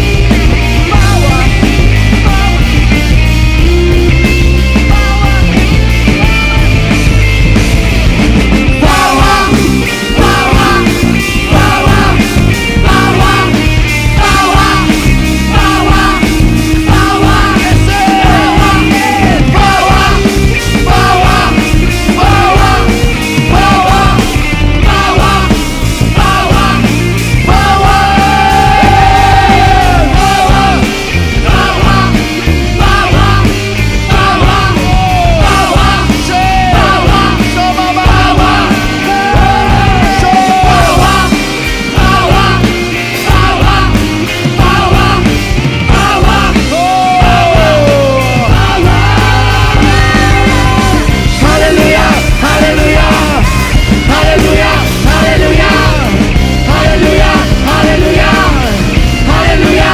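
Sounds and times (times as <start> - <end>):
live rock worship music: 0.0 - 59.9
steady drumming: 0.0 - 59.9.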